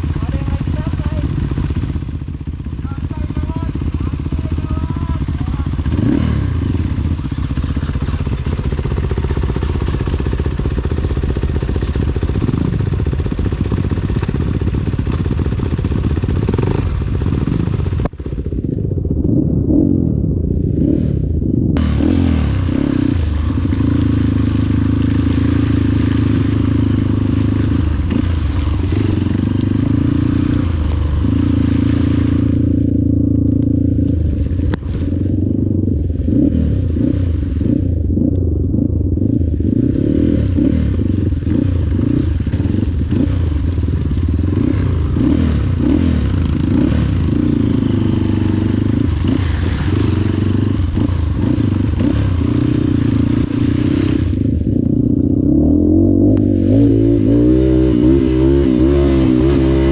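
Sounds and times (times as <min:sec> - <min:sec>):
dirt bike engine revving: 0:00.0 - 0:18.6, 0:19.2 - 0:59.9.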